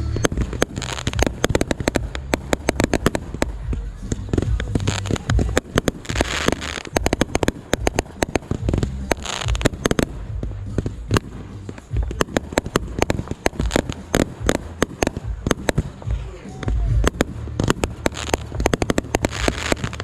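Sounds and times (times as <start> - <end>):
crackling firework showers: 0.0 - 20.0
fireworks booming: 0.0 - 20.0
fireworks cracking and popping: 0.0 - 20.0.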